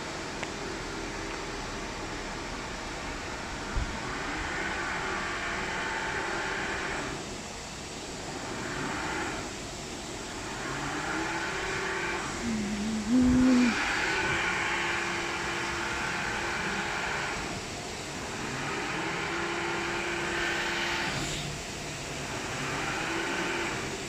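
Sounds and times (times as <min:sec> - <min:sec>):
car wash machinery hum and hiss: 0:00.0 - 0:24.0.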